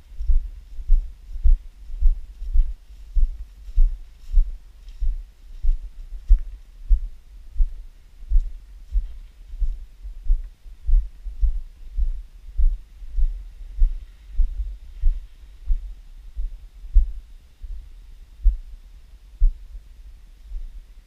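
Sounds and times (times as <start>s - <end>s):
footsteps as dull thuds: 0.0s - 18.7s.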